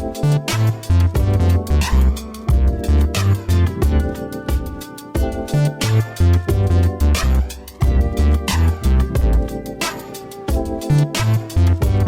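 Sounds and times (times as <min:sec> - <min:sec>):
heavy bass line: 0:00.0 - 0:10.2, 0:10.8 - 0:12.0
programmed drum beat: 0:00.0 - 0:12.0.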